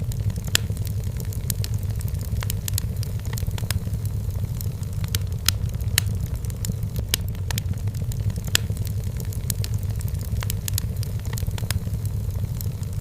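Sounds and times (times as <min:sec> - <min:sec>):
low rumble of burning fire: 0:00.0 - 0:13.0
wood fire popping and snapping: 0:00.0 - 0:13.0.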